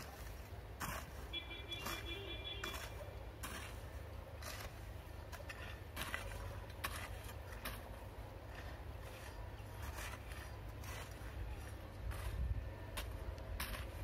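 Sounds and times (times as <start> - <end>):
hoes chopping into soil: 0.0 - 14.0.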